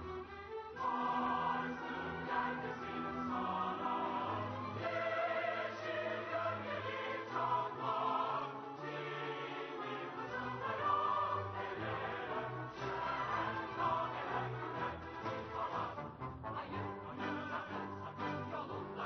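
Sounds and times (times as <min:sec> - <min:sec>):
symphony orchestra: 0:00.0 - 0:19.0
mixed choir singing: 0:00.8 - 0:19.0.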